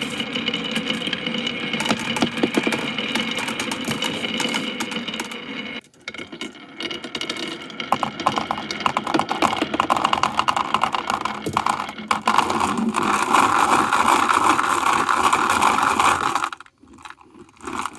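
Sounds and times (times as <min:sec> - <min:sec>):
marbles clattering down wooden run: 0:00.0 - 0:17.9.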